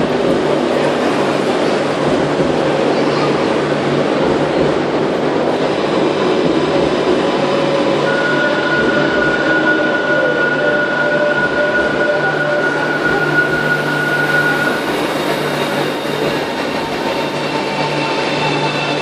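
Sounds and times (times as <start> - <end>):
train rumble and hum: 0.0 - 19.0.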